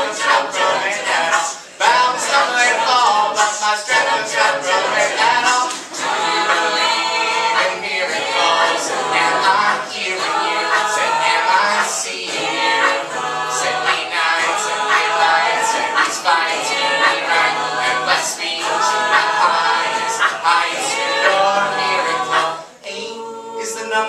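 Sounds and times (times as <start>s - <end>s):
a cappella group singing in harmony: 0.0s - 24.0s.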